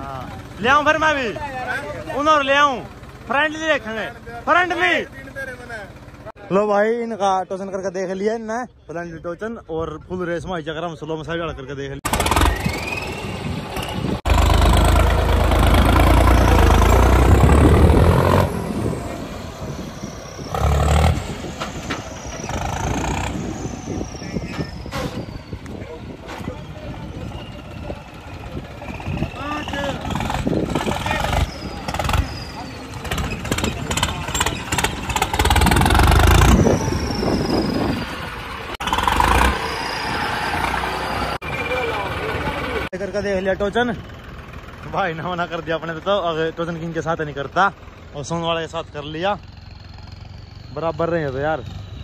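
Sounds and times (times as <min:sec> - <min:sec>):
tractor diesel engine revving: 0:00.0 - 0:06.7, 0:12.0 - 0:52.0.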